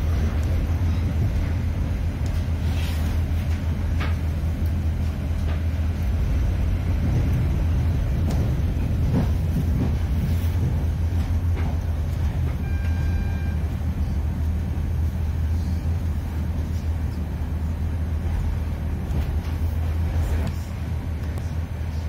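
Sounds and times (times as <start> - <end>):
train cabin rumble: 0.0 - 22.0.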